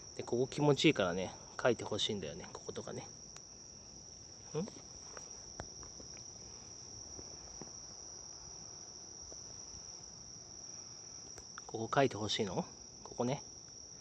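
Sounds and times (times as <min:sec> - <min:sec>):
crickets singing: 0:00.0 - 0:14.0.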